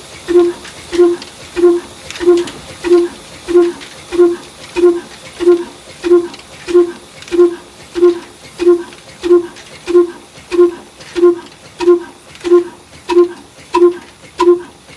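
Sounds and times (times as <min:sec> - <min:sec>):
diesel engine running slowly: 0:00.0 - 0:14.9.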